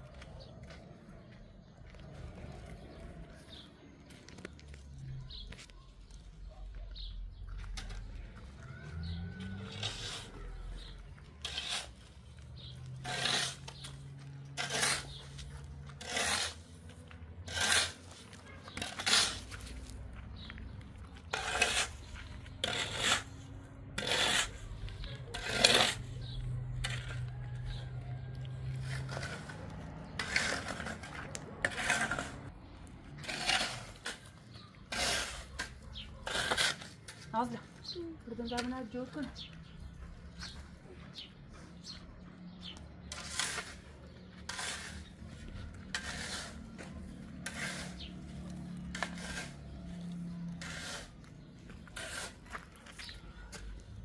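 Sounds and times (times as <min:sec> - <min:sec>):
knocks and scrapes of objects: 0:07.0 - 0:54.0.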